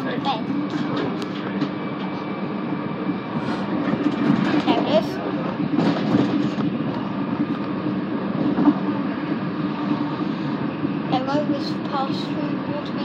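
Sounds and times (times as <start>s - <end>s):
train running at speed: 0.0s - 13.0s.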